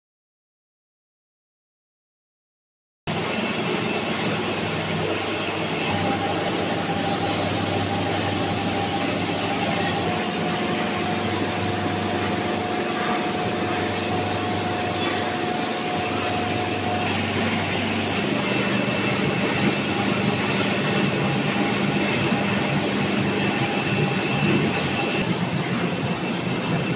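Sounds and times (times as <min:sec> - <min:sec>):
low machine hum: 0:03.1 - 0:26.9
machine roar of motors and fans: 0:03.1 - 0:26.9.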